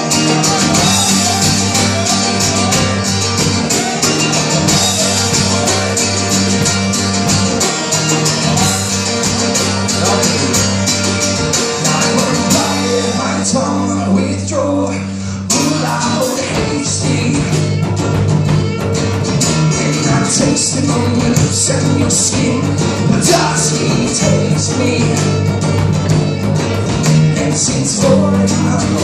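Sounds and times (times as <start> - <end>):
live band with guitars and drums: 0.0 - 29.0.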